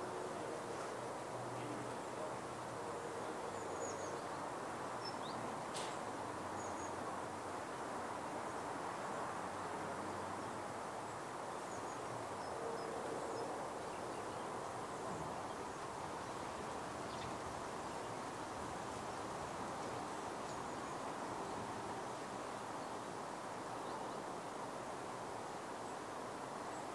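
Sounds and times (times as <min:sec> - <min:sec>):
outdoor background noise: 0:00.0 - 0:26.9.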